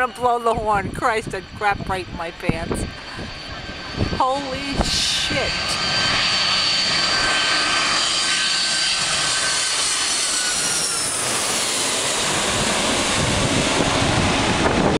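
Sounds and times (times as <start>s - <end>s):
airliner engine noise overhead: 0.0s - 14.9s
high engine whine sliding down: 2.9s - 14.9s.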